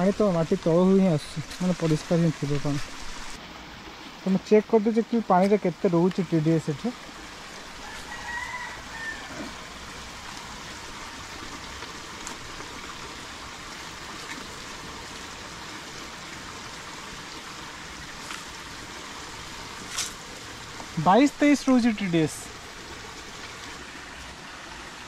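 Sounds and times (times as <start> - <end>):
stream flowing water: 0.0 - 25.0.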